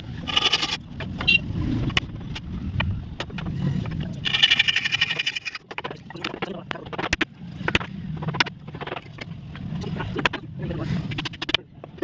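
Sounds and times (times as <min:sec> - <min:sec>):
low rumble: 0:00.0 - 0:11.4.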